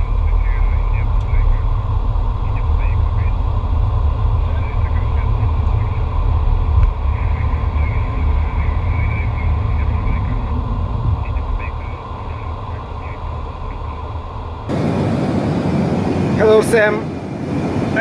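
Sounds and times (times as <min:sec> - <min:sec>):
airplane cockpit low rumble: 0:00.0 - 0:18.0.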